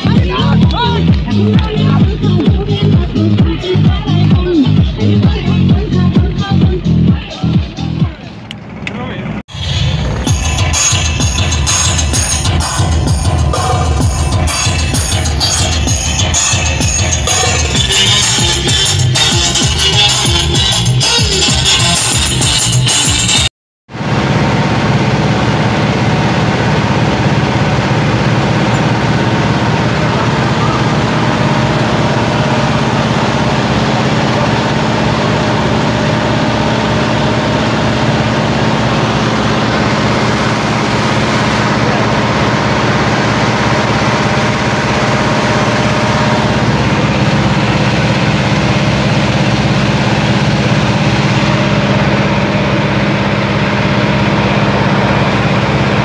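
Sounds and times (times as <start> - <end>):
boat engine running: 0.0 - 22.3, 23.9 - 56.0.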